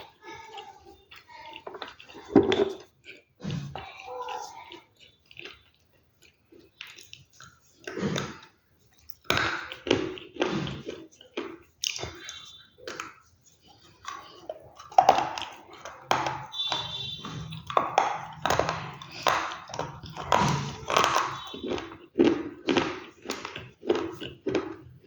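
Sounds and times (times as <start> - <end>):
chewing crisp food: 0.0 - 25.0.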